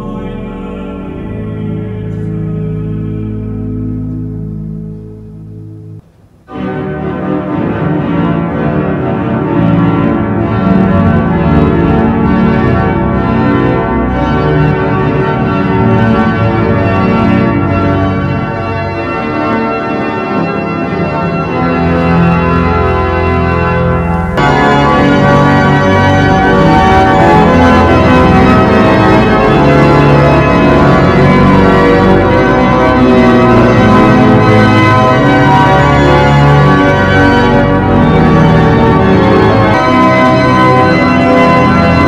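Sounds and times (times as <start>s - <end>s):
pipe organ playing chords: 0.0s - 42.0s.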